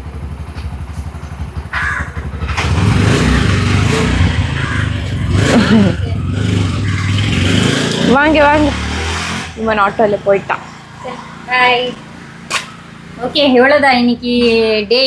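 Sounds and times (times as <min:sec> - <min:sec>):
auto-rickshaw engine puttering: 0:00.0 - 0:15.0.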